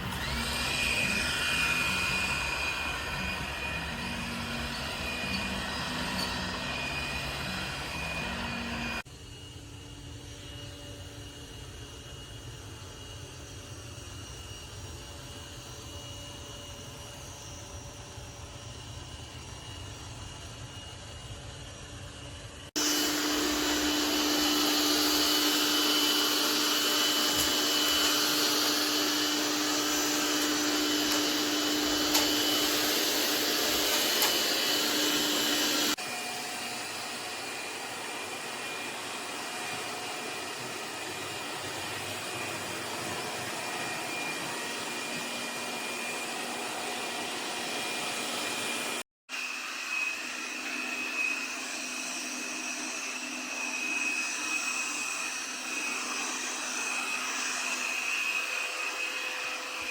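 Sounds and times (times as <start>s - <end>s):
robot vacuum whine and hiss: 0.0s - 51.5s.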